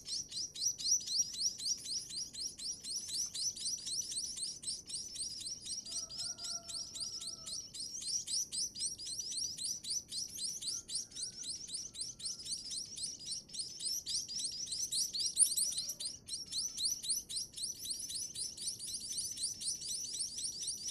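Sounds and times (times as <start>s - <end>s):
chicks begging chirps: 0.0s - 20.9s.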